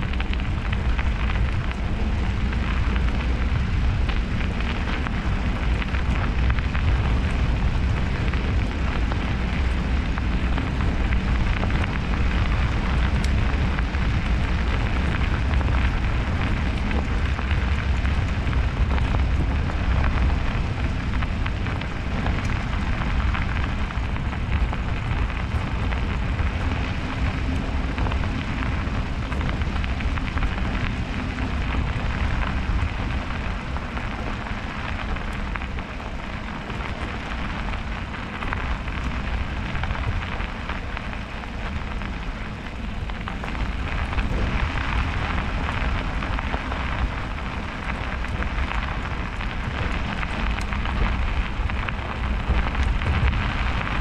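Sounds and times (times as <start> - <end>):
bicycle tyres crackling through snow: 0.0 - 54.0
wind rumble on microphone: 0.0 - 54.0.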